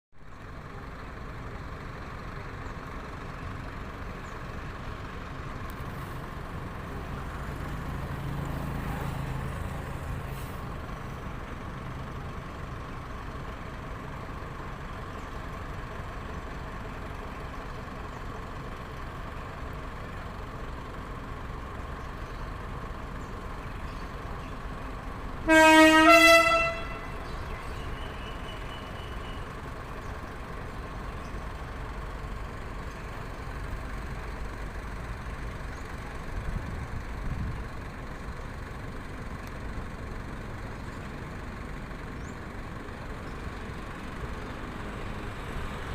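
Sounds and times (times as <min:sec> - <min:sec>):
vehicle engines rumbling: 0:00.2 - 0:45.9.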